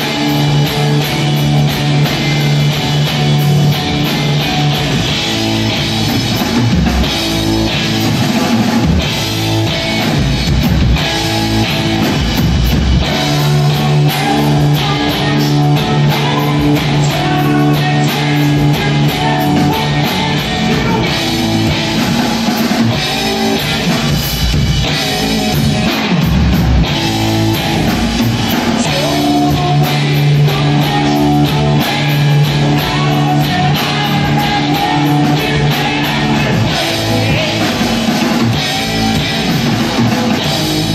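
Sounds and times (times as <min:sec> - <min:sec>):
amplified electric guitars: 0:00.0 - 0:40.9
drum kit steady beat: 0:00.0 - 0:40.9
rock band playing: 0:00.0 - 0:40.9.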